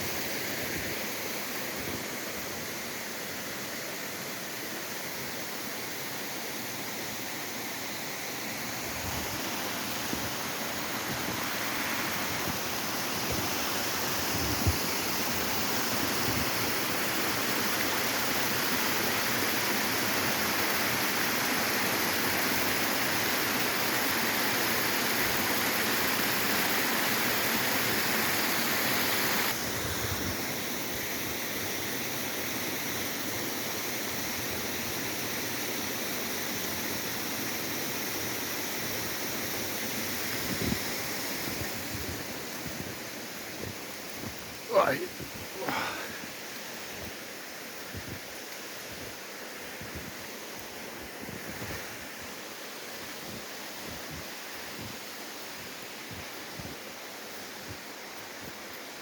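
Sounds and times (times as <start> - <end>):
waterfall rushing: 0.0 - 33.4, 34.0 - 56.1.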